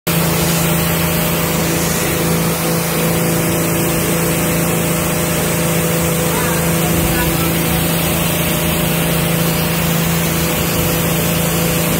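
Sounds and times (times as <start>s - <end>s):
pressure washer machine hum: 0.1s - 11.9s
water spray hissing: 0.1s - 11.9s.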